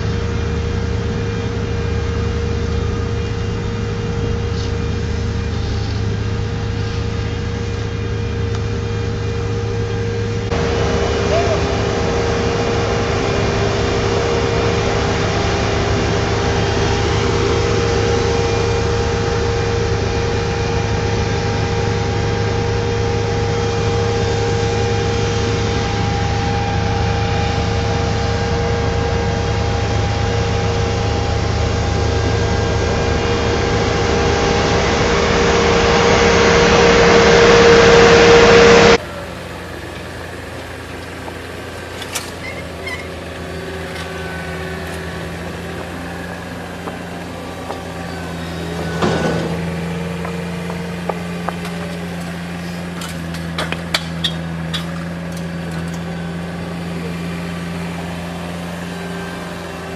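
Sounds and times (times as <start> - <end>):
diesel engine whining: 0.0 - 59.9
quiet machine engine hum: 0.0 - 59.9.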